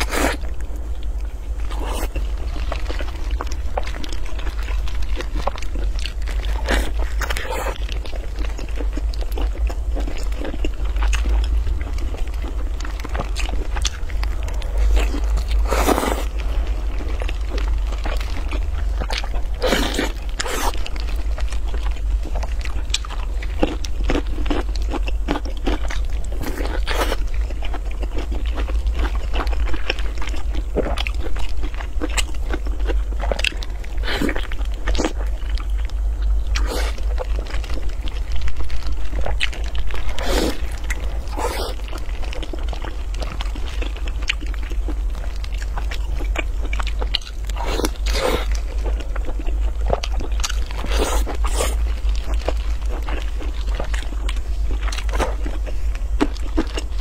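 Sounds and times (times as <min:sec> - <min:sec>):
low hum: 0:00.0 - 0:57.0
person chewing and biting food: 0:00.0 - 0:57.0.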